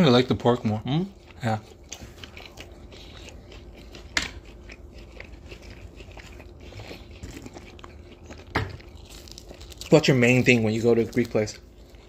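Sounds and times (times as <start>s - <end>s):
wet chewing mouth clicks: 0.5s - 12.0s.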